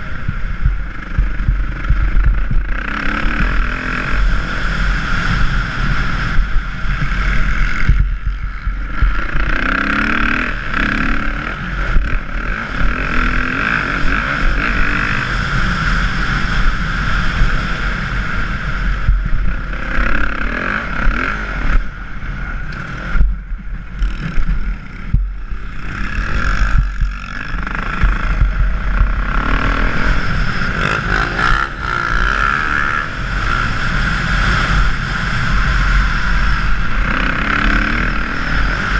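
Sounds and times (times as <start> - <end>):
dirt bike engine revving: 0.0 - 38.9
wind rumble on microphone: 0.0 - 38.9.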